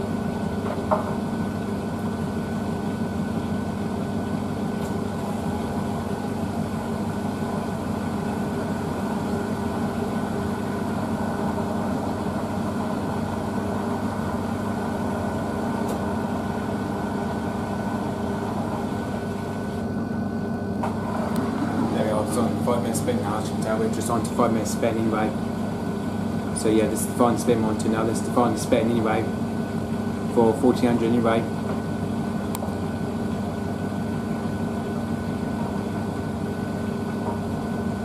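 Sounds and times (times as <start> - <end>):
washing machine spinning: 0.0 - 38.0.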